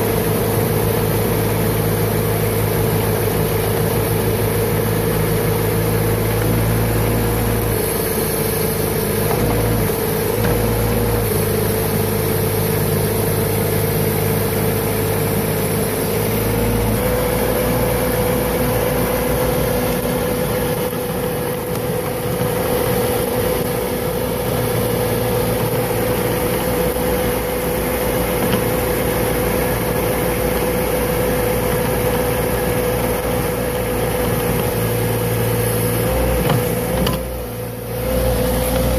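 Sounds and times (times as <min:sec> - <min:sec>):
skid steer engine whining under load: 0:00.0 - 0:38.9.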